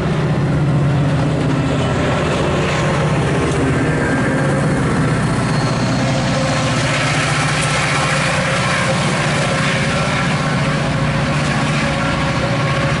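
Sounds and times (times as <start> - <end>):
diesel locomotive engine drone: 0.0 - 13.0
train wheels on rails: 0.0 - 13.0.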